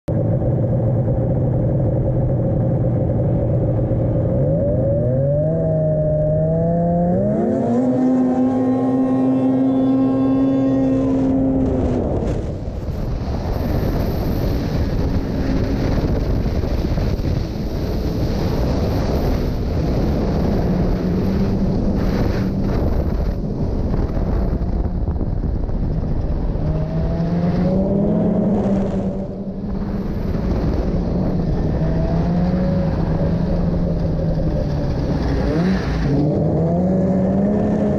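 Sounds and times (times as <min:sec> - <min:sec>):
rush of wind and track noise: 0:00.1 - 0:37.9
snowmobile engine accelerating: 0:00.2 - 0:37.9.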